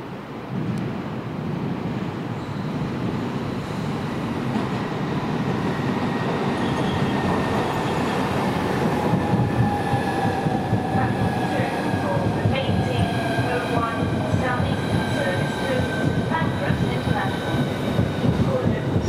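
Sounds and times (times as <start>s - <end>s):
train wheels rumbling on rail: 0.1s - 19.0s.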